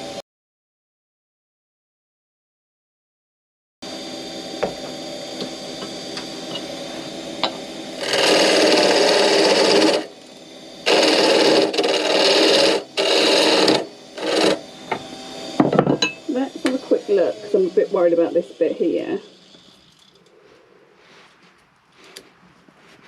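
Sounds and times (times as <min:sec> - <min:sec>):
wood lathe humming: 0:03.8 - 0:23.0
tool scraping spinning wood: 0:04.5 - 0:23.0.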